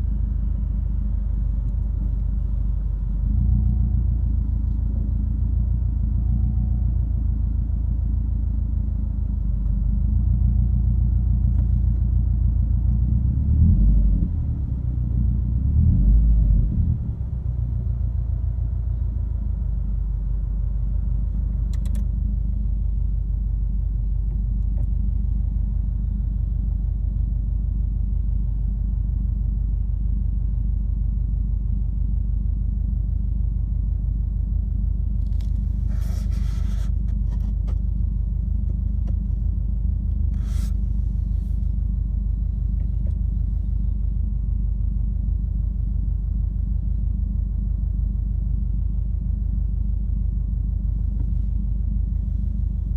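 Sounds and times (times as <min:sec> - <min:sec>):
car engine drone from cabin: 0:00.0 - 0:52.9.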